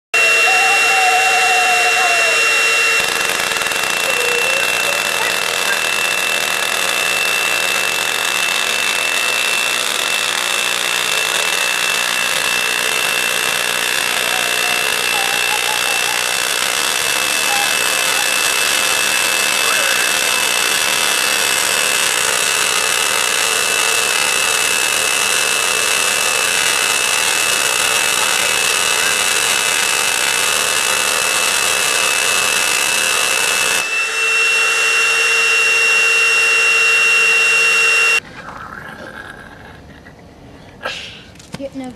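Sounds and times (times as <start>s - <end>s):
high whine: 0.1s - 38.3s
tesla coil sparking buzz: 0.2s - 38.2s.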